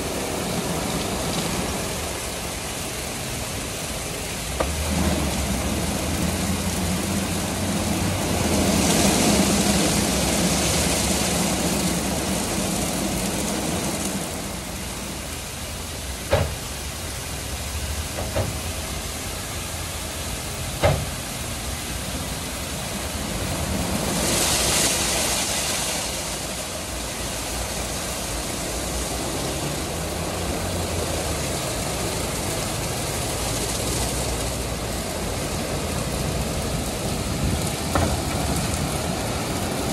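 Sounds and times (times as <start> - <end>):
water spray hissing: 0.0 - 39.9.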